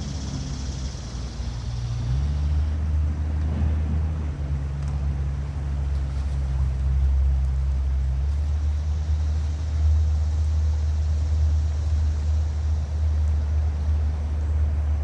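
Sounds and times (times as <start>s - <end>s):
faint hiss: 0.0s - 3.4s, 5.7s - 15.0s
low rumble: 0.0s - 15.0s.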